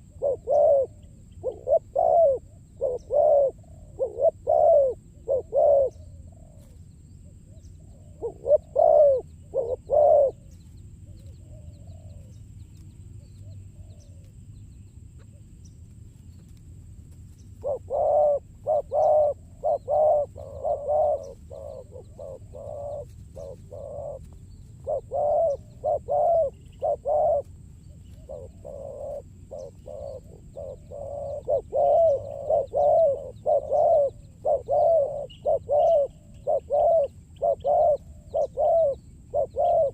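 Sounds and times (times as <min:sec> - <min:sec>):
doves cooing: 0:00.0 - 0:14.3, 0:17.3 - 0:39.9.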